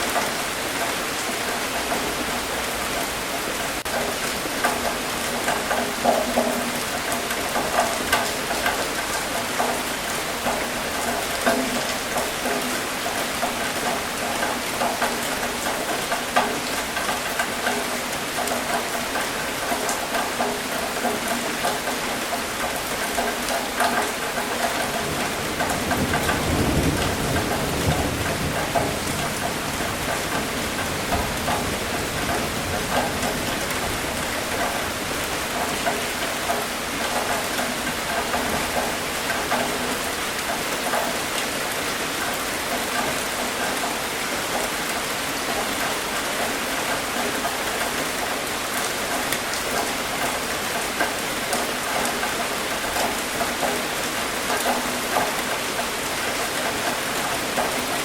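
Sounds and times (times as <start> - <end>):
rain falling: 0.0 - 58.0
raindrops ticking on a surface: 0.0 - 58.0.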